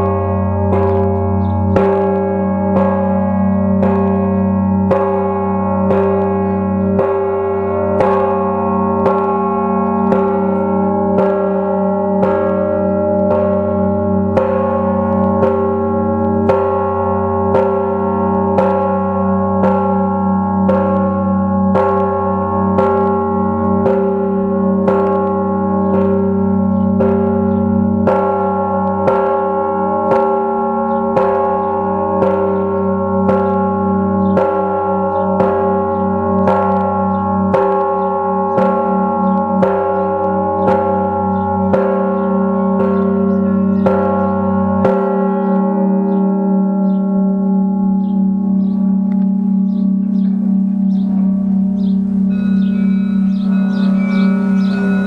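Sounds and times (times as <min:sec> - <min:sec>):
large bell deep ringing: 0:00.0 - 0:55.0
small church bells ringing: 0:00.0 - 0:55.0.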